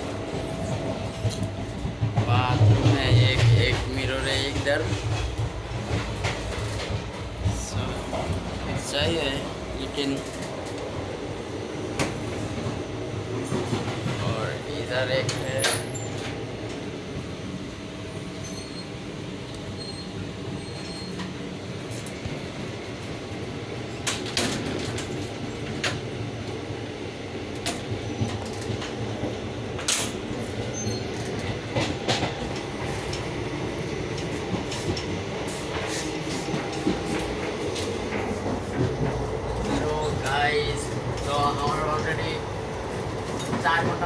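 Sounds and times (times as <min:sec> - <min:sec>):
train rumble inside coach: 0:00.0 - 0:44.0.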